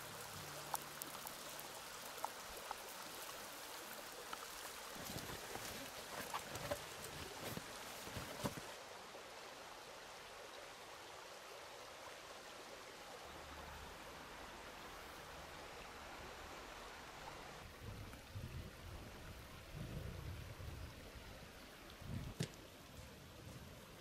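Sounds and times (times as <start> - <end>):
river flowing: 0.0 - 19.8.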